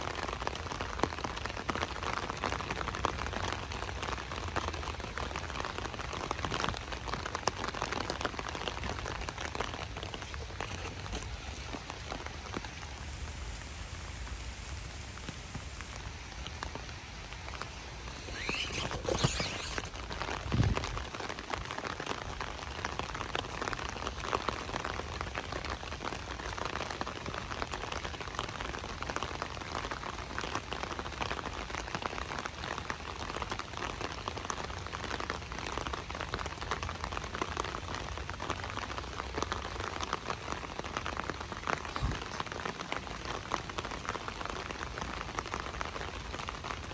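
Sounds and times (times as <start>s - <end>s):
light rain hiss: 0.0s - 46.9s
raindrops pattering: 0.0s - 46.9s.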